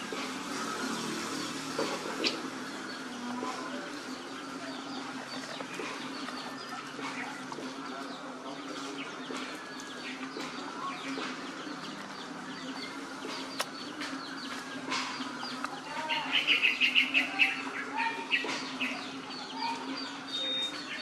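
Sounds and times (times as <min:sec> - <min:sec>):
bird chirps and calls: 0:00.1 - 0:21.0.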